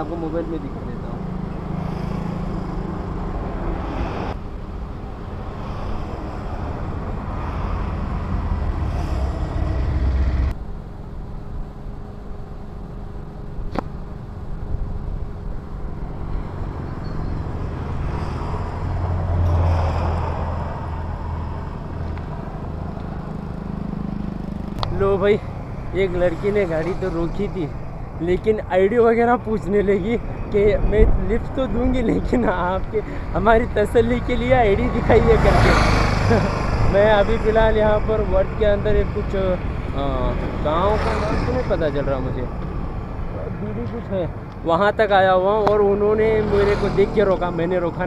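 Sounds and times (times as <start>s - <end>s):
road traffic engine rumble: 0.0s - 48.0s
vehicles passing: 0.0s - 48.0s.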